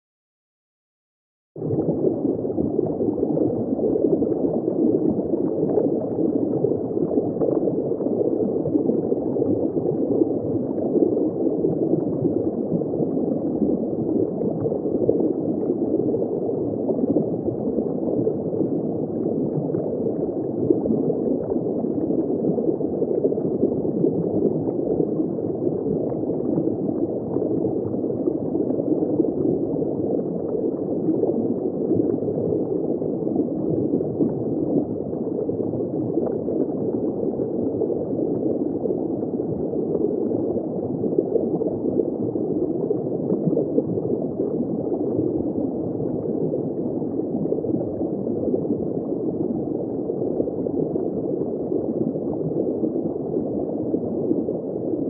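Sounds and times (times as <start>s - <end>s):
muffled underwater bubbling: 1.6s - 55.0s.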